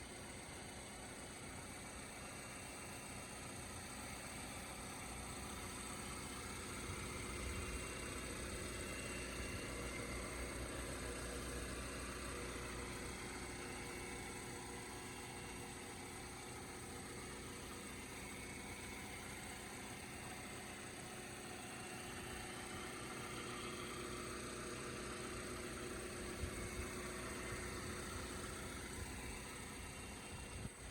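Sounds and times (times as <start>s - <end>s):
pickup engine idling: 0.0s - 30.9s.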